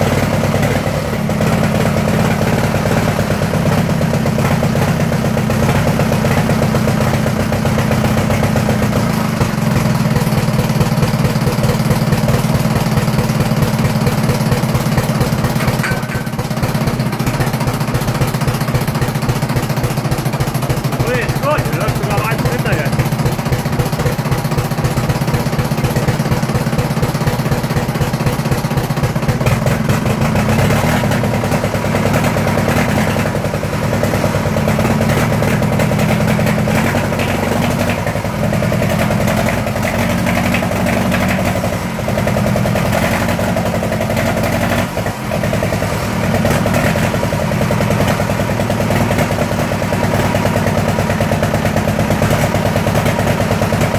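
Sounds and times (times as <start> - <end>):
diesel engine clattering: 0.0 - 53.9.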